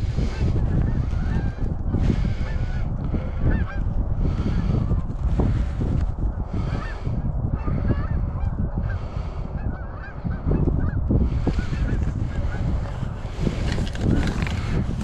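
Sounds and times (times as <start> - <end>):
geese honking: 0.0 - 5.7, 6.5 - 15.0
low rumble: 0.0 - 15.0.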